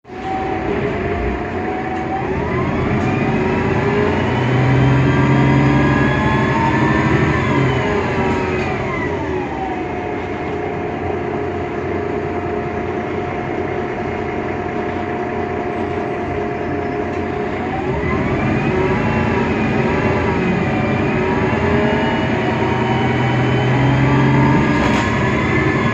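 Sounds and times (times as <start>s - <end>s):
bus diesel engine: 0.0s - 25.9s
gearbox whine: 0.1s - 25.9s.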